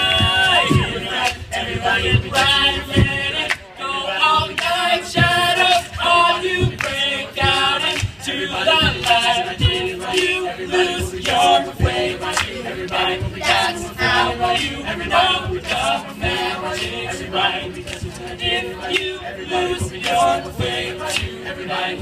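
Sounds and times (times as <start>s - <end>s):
male group singing in harmony: 0.0s - 22.0s
steady low beat: 0.0s - 22.0s.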